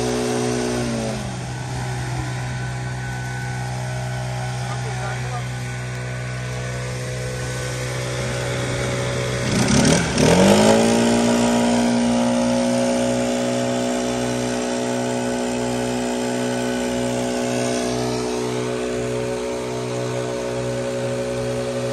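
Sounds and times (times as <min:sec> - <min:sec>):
leaf blower engine: 0:00.0 - 0:21.9.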